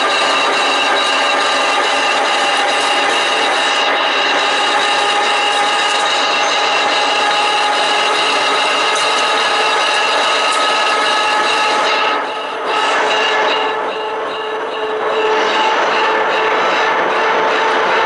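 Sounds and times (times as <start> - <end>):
high whining tones: 0.0 - 18.0
lathe grinding noise: 0.0 - 18.0.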